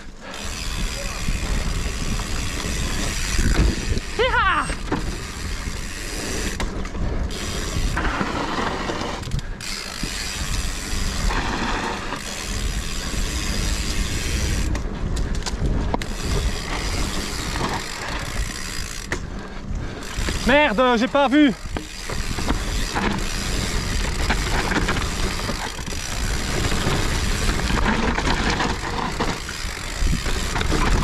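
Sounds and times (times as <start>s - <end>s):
bike rattling over bumps: 0.0s - 31.0s
freewheel ratchet buzzing: 0.0s - 31.0s.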